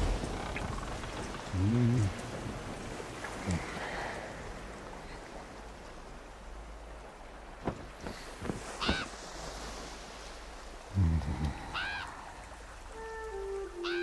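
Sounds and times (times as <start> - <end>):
sea waves: 0.0 - 14.0
wind: 0.0 - 14.0.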